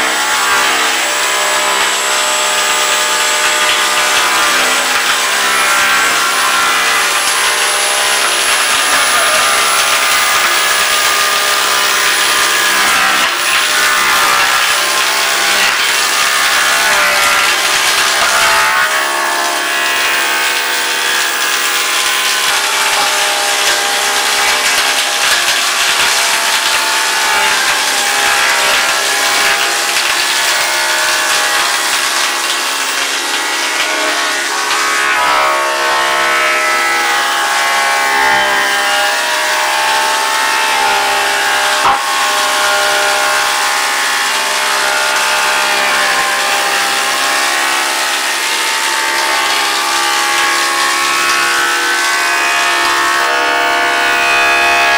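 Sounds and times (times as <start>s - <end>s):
cutters shaving wood: 0.0s - 54.9s
thickness planer whine: 0.0s - 54.9s.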